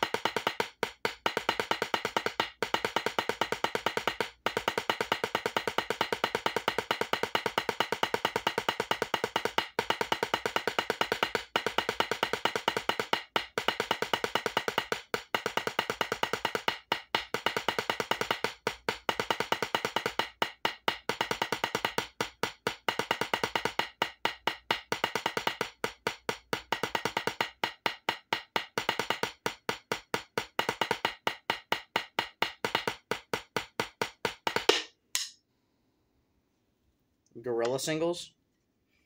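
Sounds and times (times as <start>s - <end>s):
drumsticks on practice pad: 0.0s - 35.4s.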